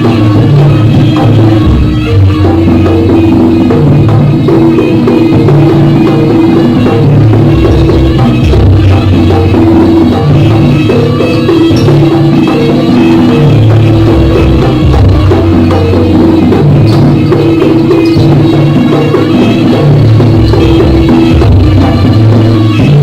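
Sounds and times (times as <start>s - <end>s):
gamelan-style ensemble playing: 0.0s - 23.0s
steady drumming: 0.0s - 23.0s.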